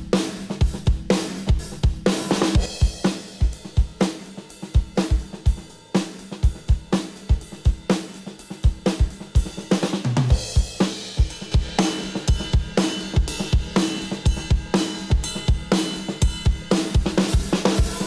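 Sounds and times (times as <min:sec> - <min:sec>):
drum kit playing steady beat: 0:00.0 - 0:18.0.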